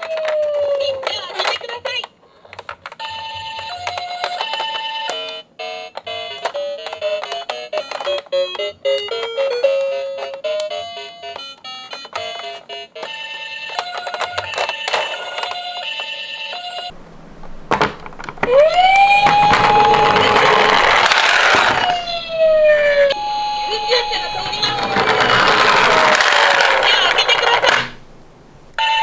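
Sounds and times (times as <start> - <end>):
toy two-tone siren: 0.0 - 1.6, 3.0 - 17.0, 18.2 - 28.0, 28.8 - 29.0.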